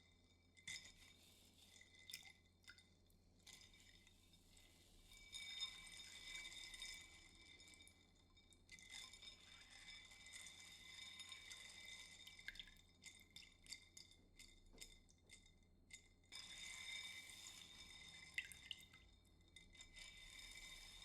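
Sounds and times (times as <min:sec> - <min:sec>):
water dripping and trickling: 0:01.7 - 0:04.2, 0:05.4 - 0:15.5, 0:16.6 - 0:21.0.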